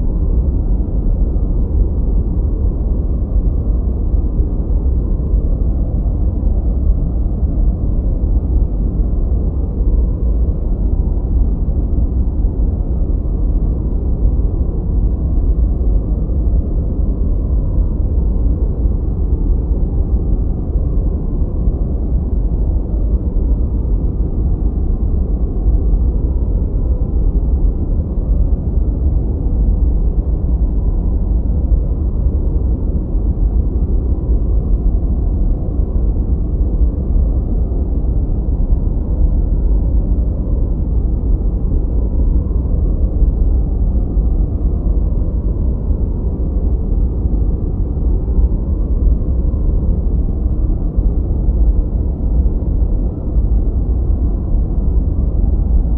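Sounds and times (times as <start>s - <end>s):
deep rumbling noise: 0.0s - 55.9s.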